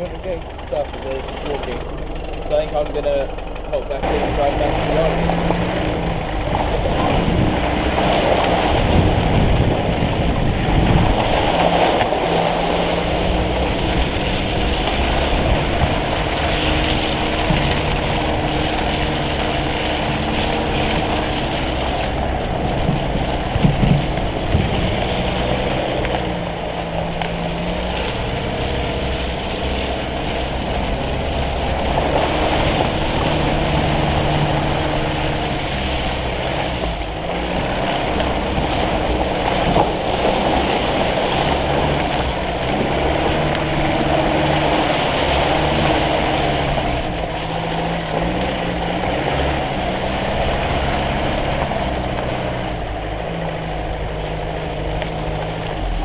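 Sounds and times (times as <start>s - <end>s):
diesel engine running: 0.0s - 56.0s
wind noise: 5.2s - 56.0s.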